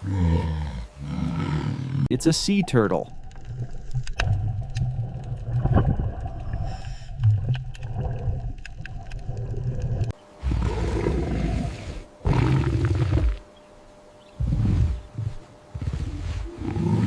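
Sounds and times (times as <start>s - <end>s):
sea turtle low rumbling: 0.0s - 13.5s, 14.2s - 17.0s.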